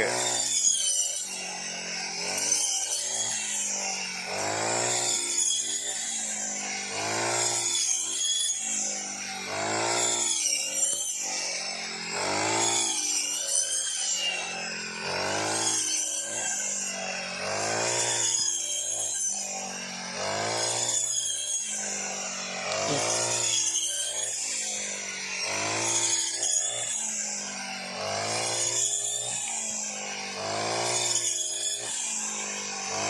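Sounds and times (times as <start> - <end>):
brush cutter engine running: 0.0 - 33.0.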